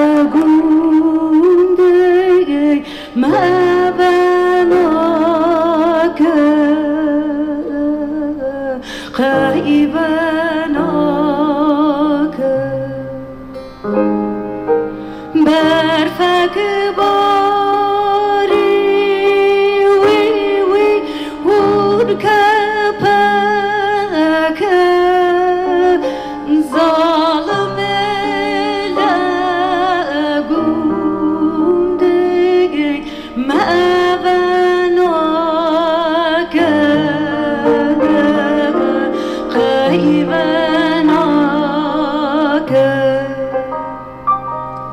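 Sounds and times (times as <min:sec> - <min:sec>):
woman singing with vibrato: 0:00.0 - 0:13.4, 0:15.3 - 0:43.8.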